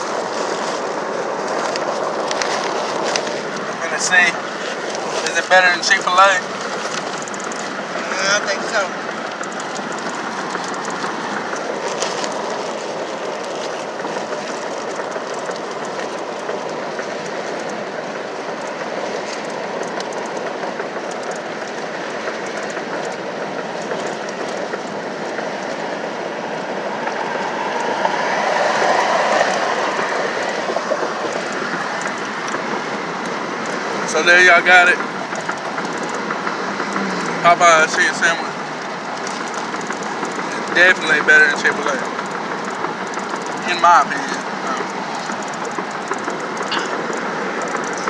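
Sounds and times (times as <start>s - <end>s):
vehicle rumble from inside: 0.0s - 48.0s.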